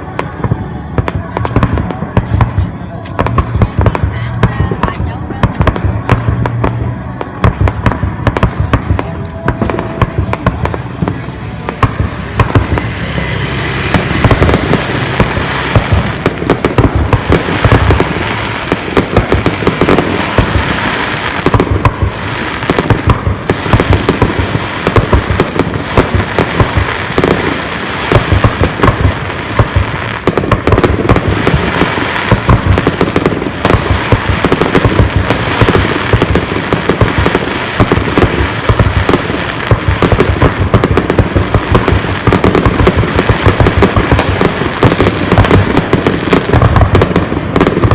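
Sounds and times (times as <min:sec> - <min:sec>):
fireworks bursts and bangs: 0:00.0 - 0:47.9
fireworks crackling: 0:00.0 - 0:47.9
fireworks hissing: 0:00.0 - 0:47.9.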